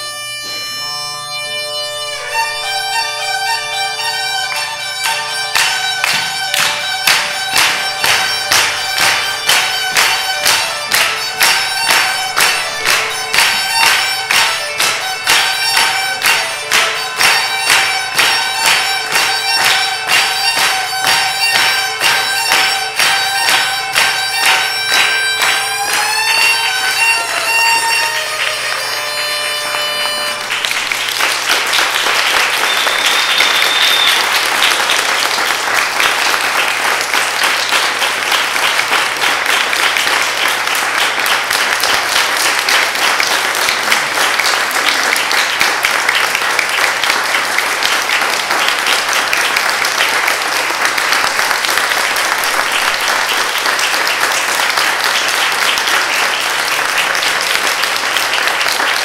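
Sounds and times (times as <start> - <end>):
audience clapping along: 0.0 - 59.0
folk tune with drone: 0.0 - 59.0
audience applause: 4.4 - 59.0.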